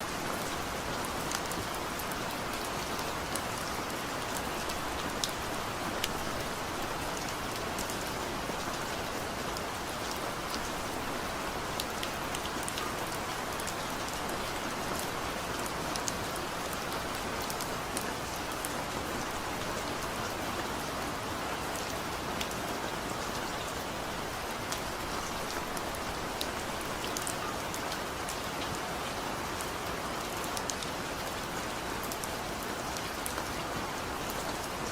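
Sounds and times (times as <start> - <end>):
steady rain hiss: 0.0 - 34.9
raindrops ticking on a surface: 0.3 - 21.0, 21.7 - 34.9.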